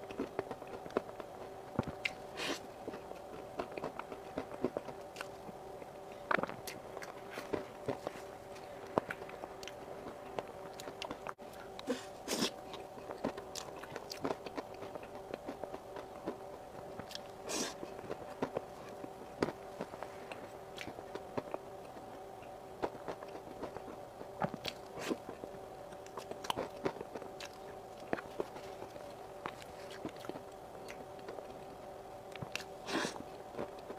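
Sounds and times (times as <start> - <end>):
wet chewing mouth sounds: 0.0 - 31.5
faint steady hum: 0.0 - 33.9.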